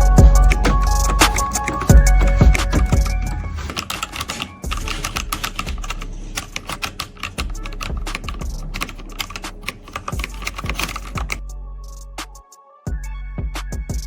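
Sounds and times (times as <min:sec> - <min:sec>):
mechanical keyboard typing: 0:00.0 - 0:11.4.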